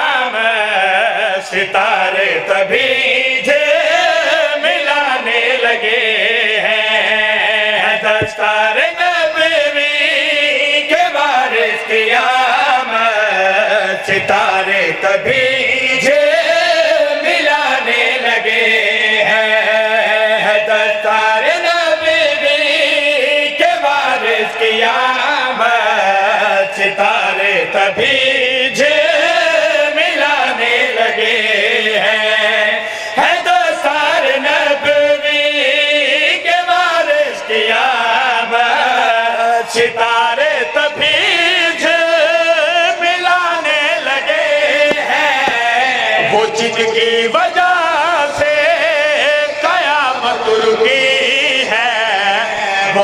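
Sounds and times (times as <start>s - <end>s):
men chanting through a pa system: 0.0s - 53.0s.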